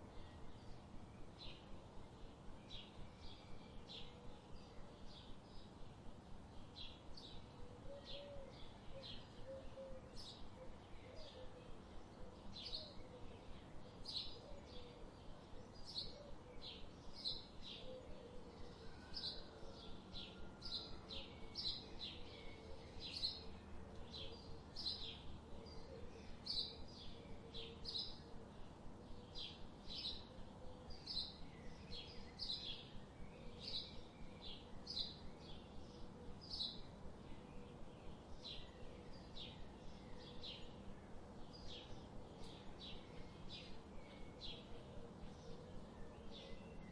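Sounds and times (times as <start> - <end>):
faint low background noise: 0.0 - 46.9
small birds chirping: 0.0 - 46.9.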